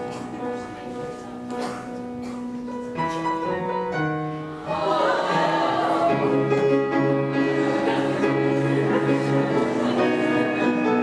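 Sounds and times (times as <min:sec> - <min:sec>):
live stage music with piano: 0:00.0 - 0:11.0.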